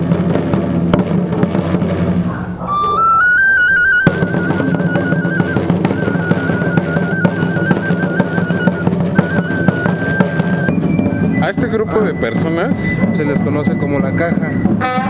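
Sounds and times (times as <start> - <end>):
snare drums beating: 0.0 - 15.0
shrill wind instrument trilling: 2.3 - 15.0.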